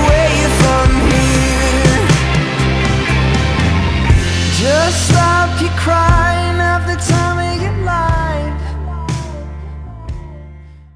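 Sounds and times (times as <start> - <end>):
instrumental rock music: 0.0 - 10.8.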